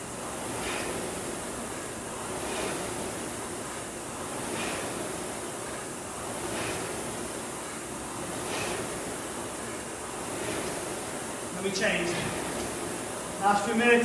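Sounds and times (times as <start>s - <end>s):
rowing machine fan whooshing: 0.0s - 14.0s.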